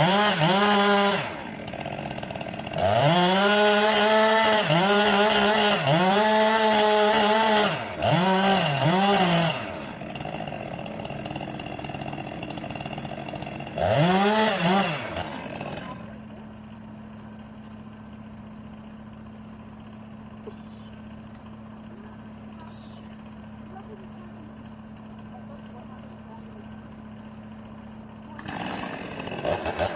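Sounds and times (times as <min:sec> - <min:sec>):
chainsaw revving and idling: 0:00.0 - 0:29.9.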